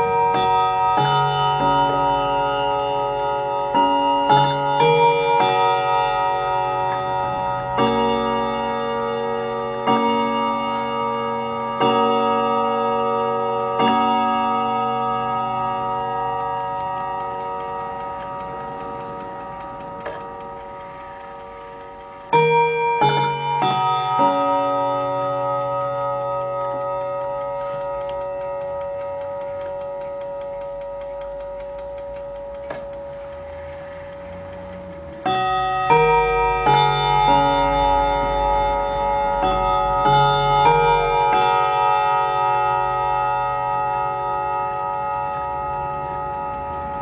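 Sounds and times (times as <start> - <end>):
clock striking: 0.0 - 47.0
clock ticking: 0.0 - 47.0
mantel clock chiming: 0.0 - 47.0.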